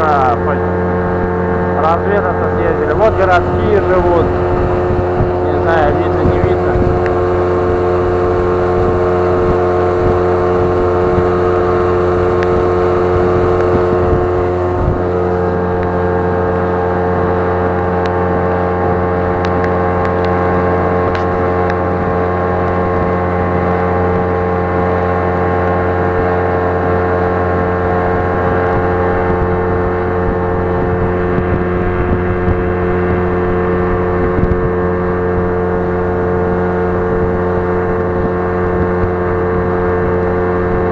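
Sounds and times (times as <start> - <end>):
motor engine running steadily: 0.0 - 40.9.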